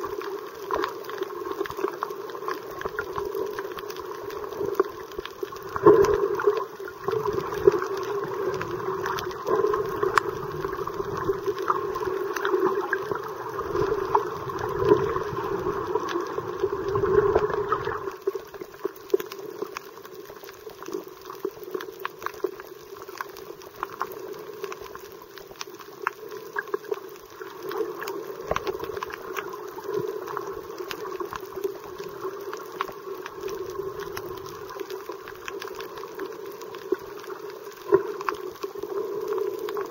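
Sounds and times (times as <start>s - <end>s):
crackling clicks underwater: 0.0s - 39.9s
underwater water movement: 0.0s - 39.9s.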